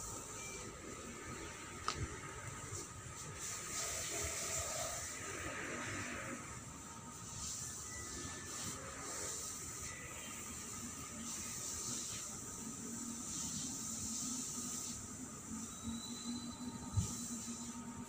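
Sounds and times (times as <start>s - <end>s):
high steady hiss: 0.0s - 18.0s.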